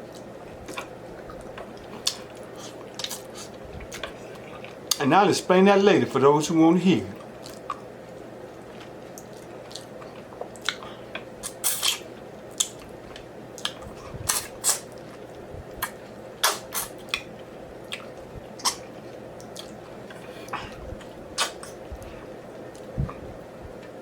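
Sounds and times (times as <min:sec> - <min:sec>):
chewing and lip smacking: 0:00.0 - 0:05.1, 0:07.2 - 0:24.0
faint steady hum: 0:00.0 - 0:24.0.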